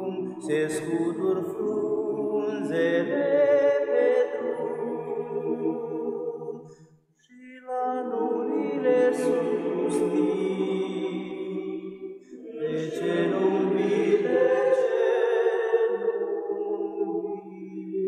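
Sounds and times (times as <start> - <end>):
slow chant-like singing: 0.0 - 18.0.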